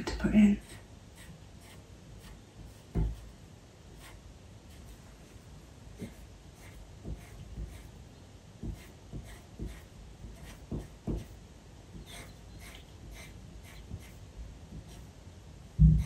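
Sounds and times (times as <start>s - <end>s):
pencil scratching on paper: 0.6s - 5.0s, 6.0s - 8.0s, 8.6s - 15.1s.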